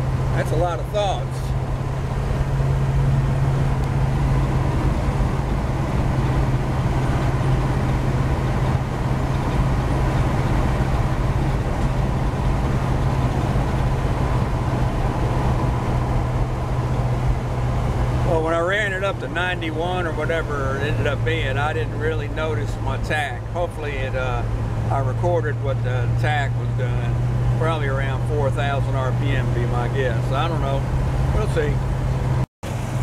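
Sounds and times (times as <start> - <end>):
engine drone: 0.0 - 33.0
road and wind noise: 0.0 - 33.0.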